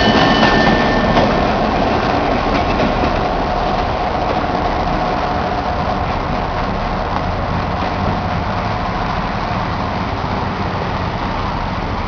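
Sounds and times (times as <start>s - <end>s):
diesel locomotive engine hum: 0.0s - 12.0s.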